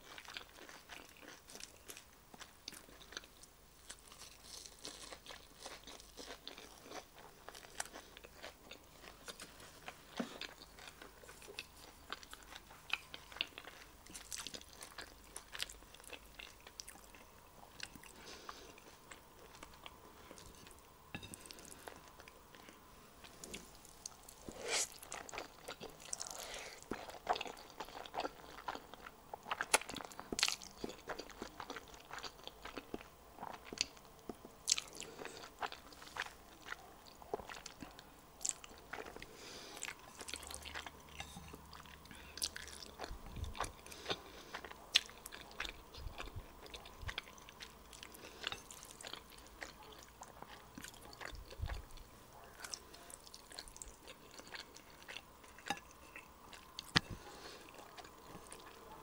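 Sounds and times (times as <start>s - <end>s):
chewing and crunching: 0.0s - 59.0s.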